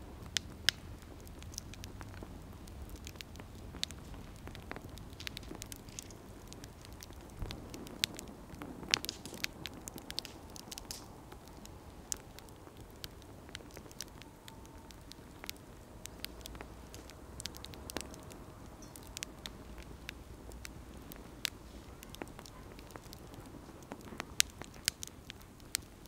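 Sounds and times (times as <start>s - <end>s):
campfire crackling and popping: 0.0s - 26.0s
low hiss of burning: 0.0s - 26.0s.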